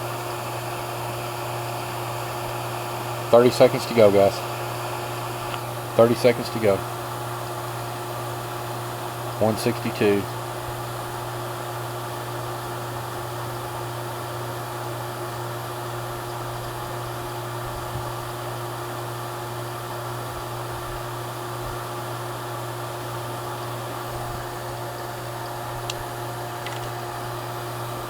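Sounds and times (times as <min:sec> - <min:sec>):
vacuum pump motor hum: 0:00.0 - 0:28.0.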